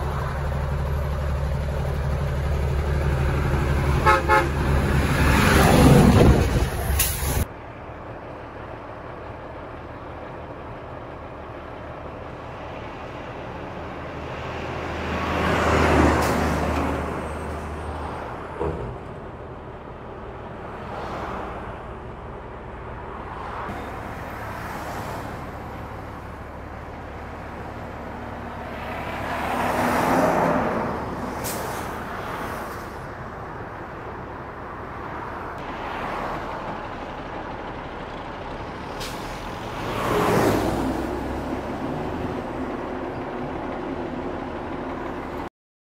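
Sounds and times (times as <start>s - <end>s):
heavy trucks in traffic: 0.0s - 45.5s.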